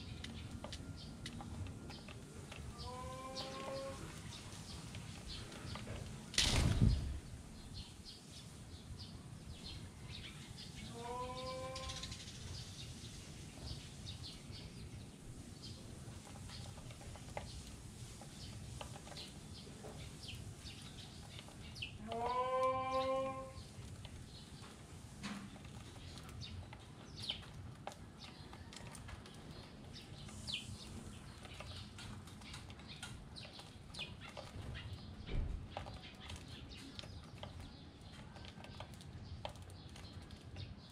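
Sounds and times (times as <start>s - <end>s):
sparrows chirping: 0.0s - 40.9s.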